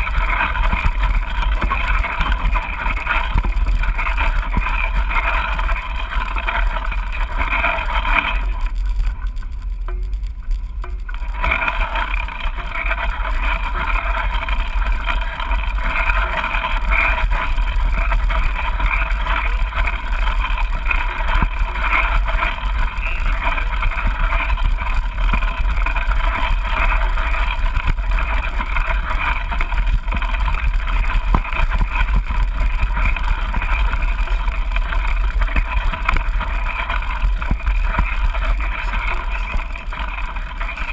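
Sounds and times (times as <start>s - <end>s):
steady rushing noise: 0.0s - 40.9s
wind rumble on microphone: 0.0s - 40.9s.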